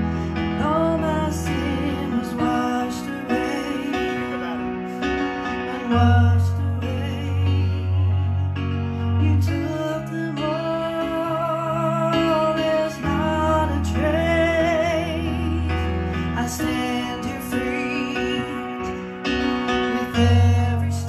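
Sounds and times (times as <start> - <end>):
electronic keyboard chords: 0.0 - 21.0.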